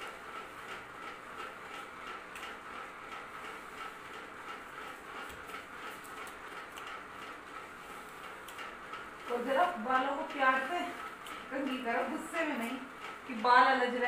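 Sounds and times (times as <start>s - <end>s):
ceiling fan humming: 0.0s - 14.0s
fan ticking: 0.0s - 14.0s.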